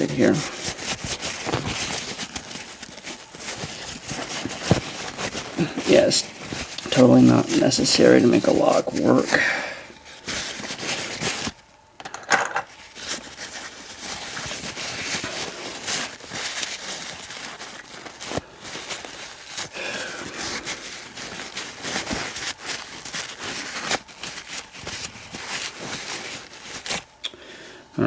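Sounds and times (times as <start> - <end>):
paper towel rustling: 0.0 - 11.6, 12.7 - 27.1.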